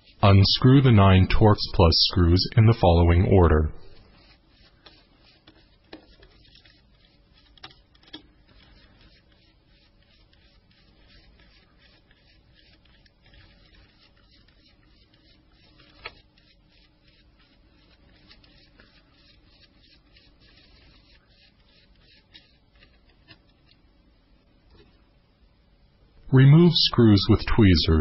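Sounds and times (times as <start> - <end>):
screwdriver rubbing and scraping: 0.0 - 23.8.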